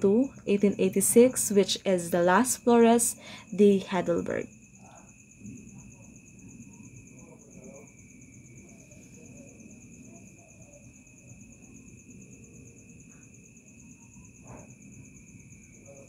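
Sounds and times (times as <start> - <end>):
insect trilling: 0.0 - 16.0
low background hiss: 0.0 - 16.0.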